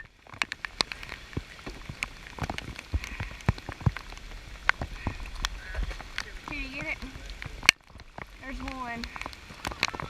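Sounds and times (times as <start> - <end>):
rain falling on river: 0.0 - 10.0.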